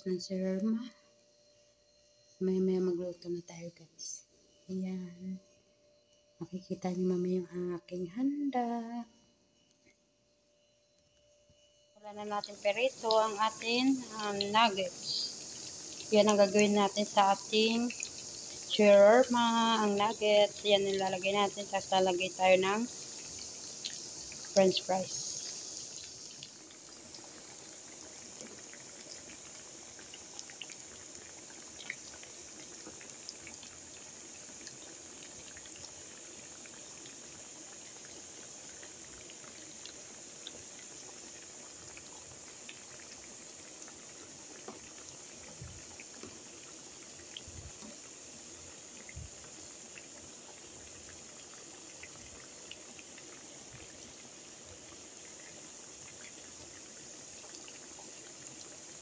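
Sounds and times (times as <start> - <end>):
food deep-frying in oil: 11.5 - 59.0.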